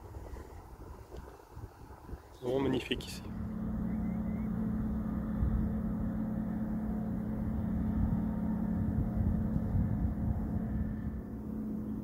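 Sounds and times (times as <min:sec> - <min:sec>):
low uneven rumble: 0:00.0 - 0:12.0
motor engine humming: 0:00.0 - 0:12.0.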